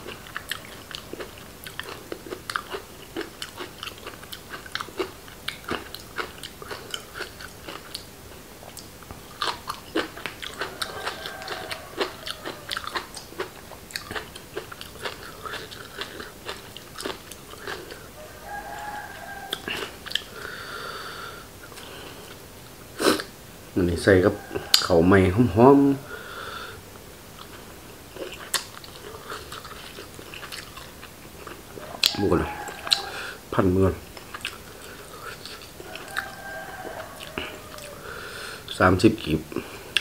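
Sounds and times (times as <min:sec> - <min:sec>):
person chewing food: 0:00.0 - 0:22.4, 0:27.4 - 0:33.4, 0:34.0 - 0:38.8, 0:39.5 - 0:40.0.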